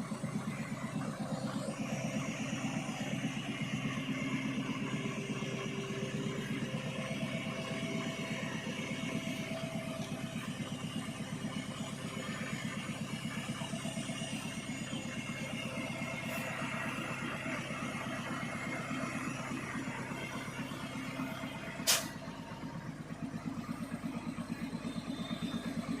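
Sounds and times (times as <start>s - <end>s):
crane diesel engine throbbing: 0.0s - 26.0s.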